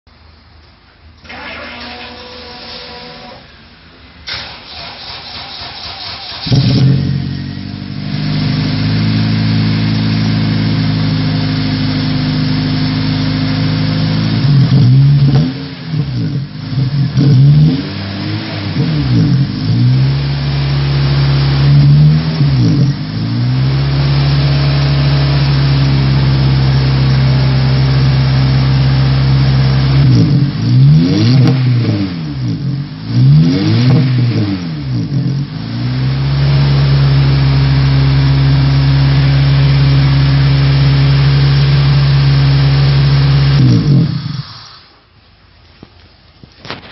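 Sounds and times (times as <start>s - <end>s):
car engine revving through exhaust: 6.4s - 44.9s.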